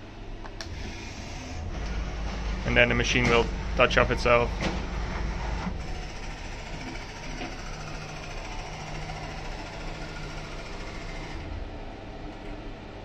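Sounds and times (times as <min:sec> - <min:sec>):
milling machine axis whirring: 0:00.5 - 0:13.0.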